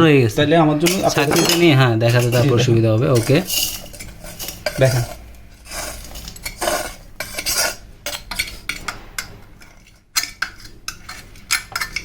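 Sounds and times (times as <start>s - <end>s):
metal spoon scraping steel jar: 0.8s - 12.0s.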